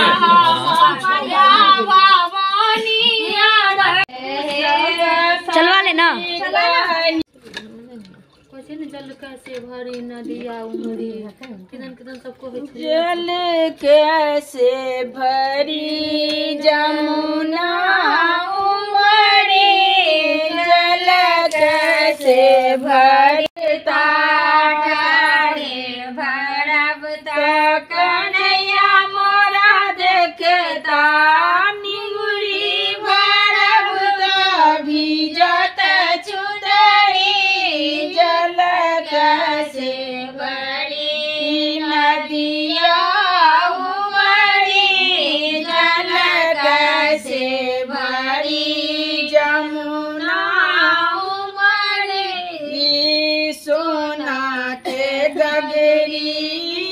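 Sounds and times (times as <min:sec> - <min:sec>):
women singing folk song: 0:00.0 - 0:08.2, 0:09.0 - 0:56.9.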